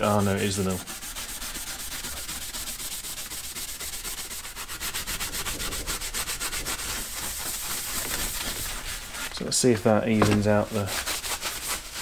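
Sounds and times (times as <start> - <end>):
sanding on bare metal: 0.0 - 12.0.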